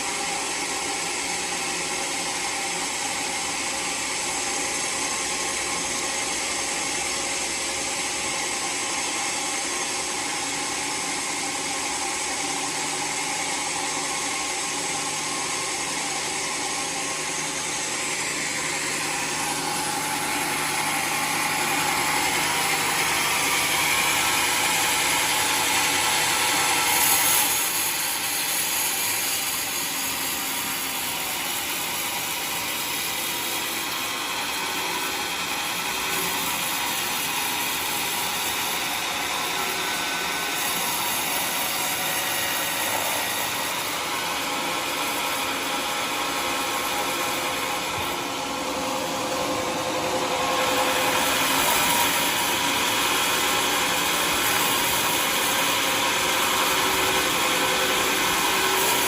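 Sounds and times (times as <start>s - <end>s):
sawmill blade cutting log: 0.0s - 59.0s.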